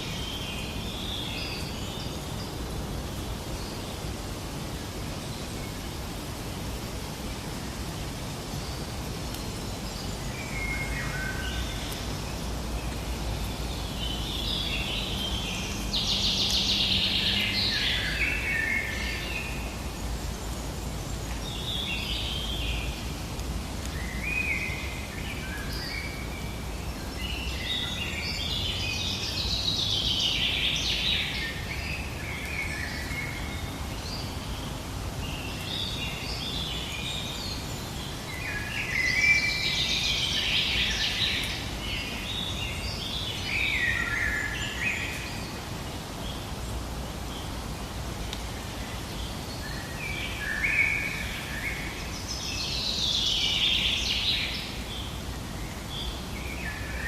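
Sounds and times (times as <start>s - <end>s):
birds singing: 0.0s - 57.0s
low background noise: 0.0s - 57.0s.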